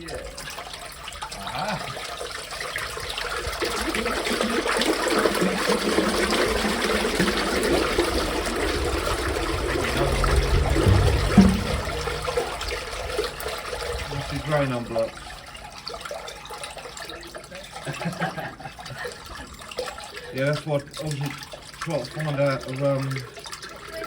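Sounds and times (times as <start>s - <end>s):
water gurgling down a drain: 0.0s - 24.0s.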